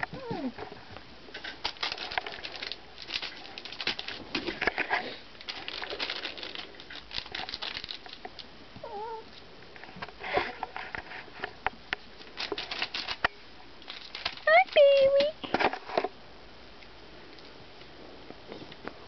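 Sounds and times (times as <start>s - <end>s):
puppy paws clicking and rustling: 0.0s - 16.0s.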